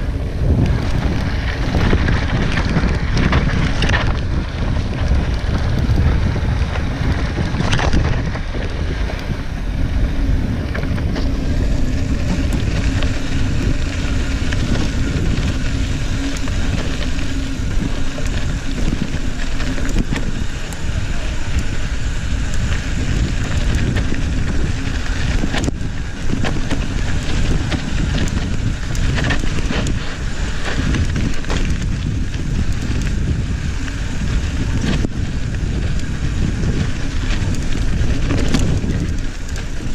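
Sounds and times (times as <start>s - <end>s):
bike knocks and rattles: 0.0s - 39.9s
bike tyres rolling on dirt: 0.0s - 39.9s
wind buffeting microphone: 0.0s - 39.9s.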